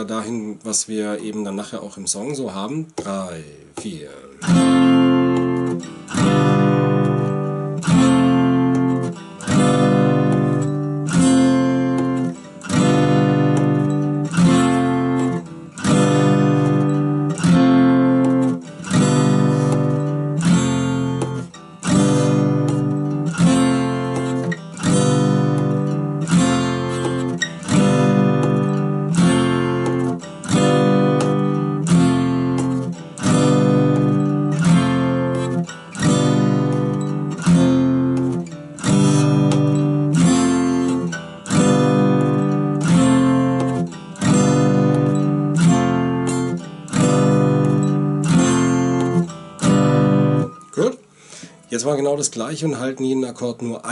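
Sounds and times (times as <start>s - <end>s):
acoustic guitar strumming chords: 0.0s - 52.9s.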